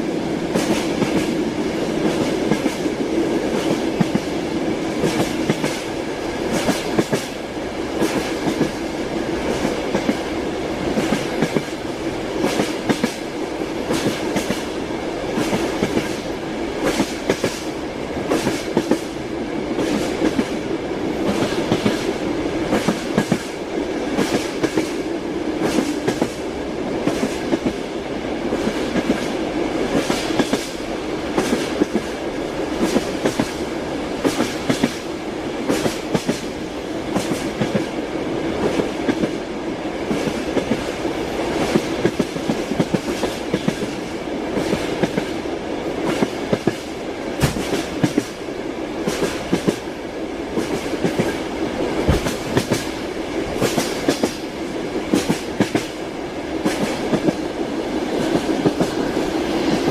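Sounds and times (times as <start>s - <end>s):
moving train rumble: 0.0s - 59.9s
train wheels clickety-clack: 0.0s - 59.9s.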